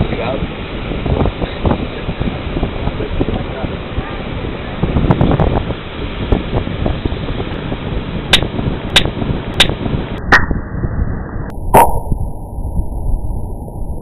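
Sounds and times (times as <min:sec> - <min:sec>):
steady rumbling noise: 0:00.0 - 0:14.0.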